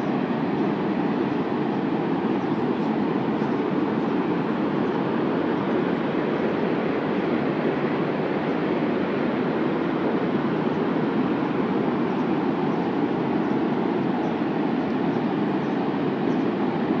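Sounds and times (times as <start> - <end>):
water rushing down dam spillway: 0.0 - 17.0.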